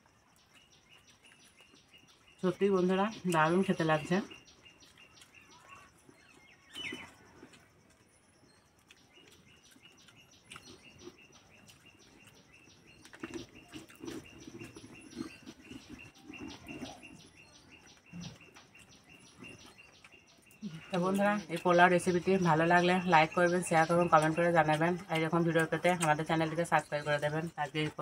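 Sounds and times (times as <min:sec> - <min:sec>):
birds chirping: 0:00.0 - 0:28.0
people eating by hand: 0:00.0 - 0:28.0.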